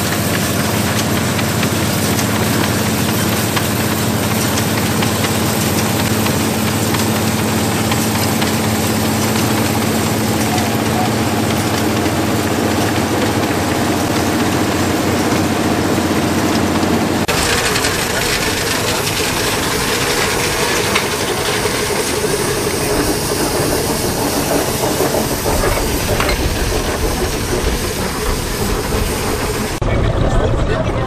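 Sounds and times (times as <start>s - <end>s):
combine harvester running: 0.0s - 31.0s.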